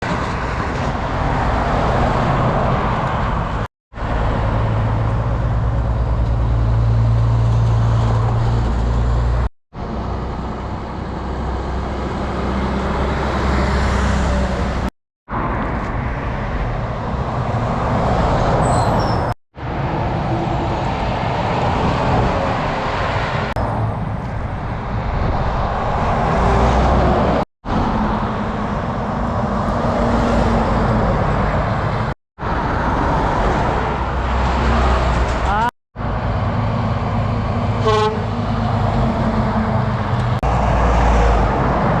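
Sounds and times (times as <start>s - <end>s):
road traffic: 0.0s - 42.0s
heavy truck engine hum: 0.1s - 42.0s.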